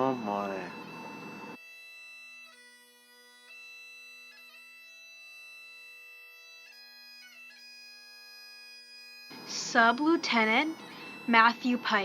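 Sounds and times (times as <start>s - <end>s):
bagpipes playing slow tune: 0.0s - 12.0s.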